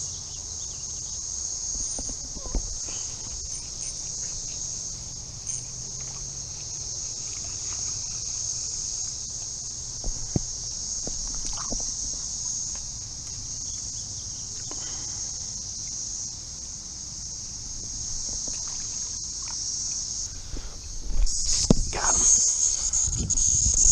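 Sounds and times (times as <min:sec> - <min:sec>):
insect chorus: 0:00.0 - 0:23.9.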